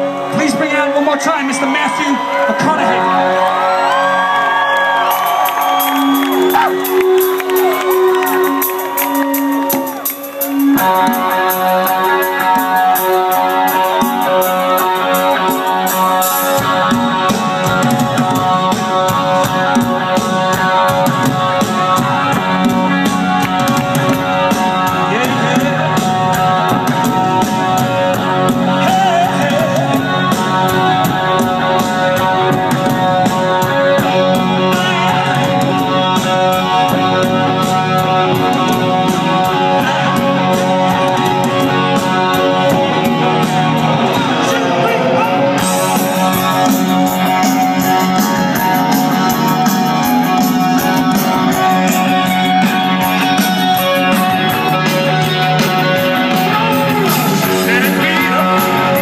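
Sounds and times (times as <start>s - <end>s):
bass guitar: 2.3s - 59.0s
drums with a steady beat: 5.0s - 59.0s.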